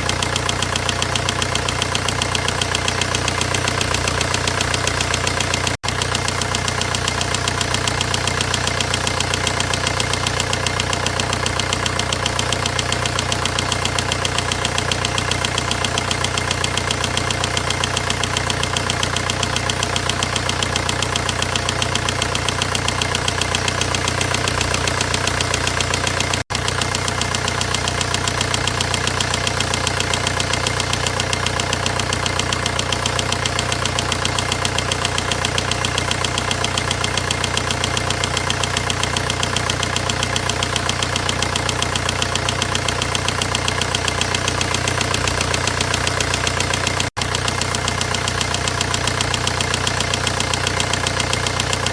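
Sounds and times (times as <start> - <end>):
diesel engine idling with clatter: 0.0 - 51.9.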